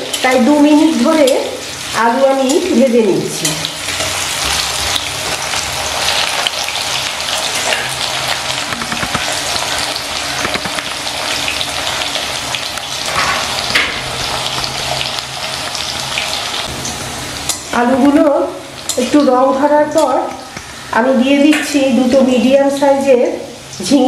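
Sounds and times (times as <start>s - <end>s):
potatoes sizzling in oil: 0.0s - 24.0s.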